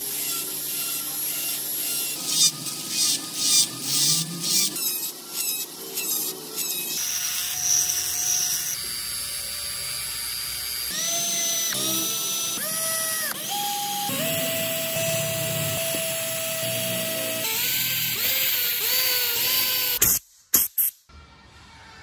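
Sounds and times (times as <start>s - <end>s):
cordless drill boring into wood: 0.0s - 20.0s
noisy power tool: 0.0s - 20.1s.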